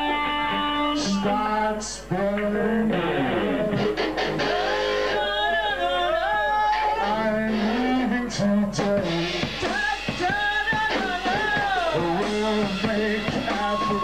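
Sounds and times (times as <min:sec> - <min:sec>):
rock band playing live: 0:00.0 - 0:05.6, 0:06.6 - 0:14.0
electric guitar: 0:00.0 - 0:14.0
person singing: 0:00.0 - 0:14.0.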